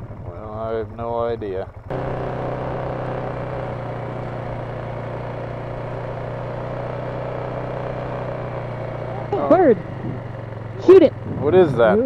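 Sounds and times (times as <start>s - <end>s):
atv engine running steadily: 0.0s - 12.0s.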